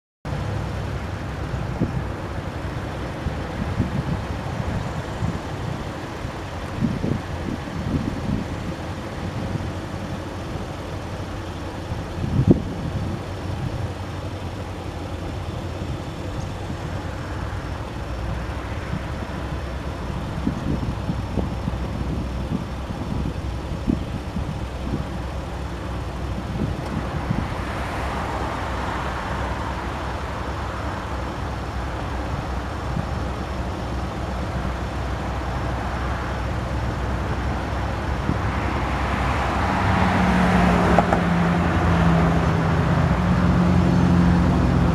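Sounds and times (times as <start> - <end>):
road traffic: 0.2 - 44.9
distant diesel locomotive rumble: 0.3 - 44.9.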